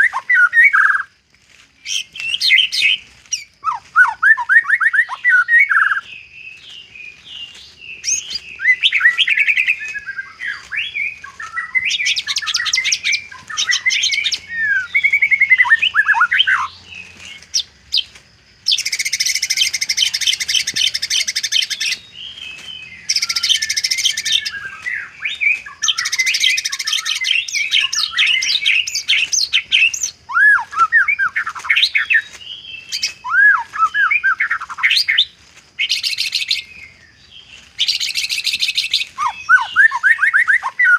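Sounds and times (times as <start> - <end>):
songbird singing whistled phrases: 0.0 - 1.1, 1.8 - 40.9
rapid rattling bird trills: 1.8 - 40.9.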